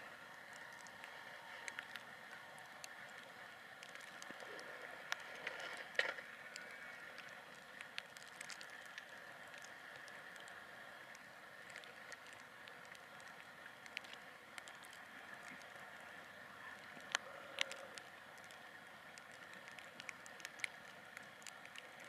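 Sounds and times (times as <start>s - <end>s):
small clicks: 0.3s - 22.0s.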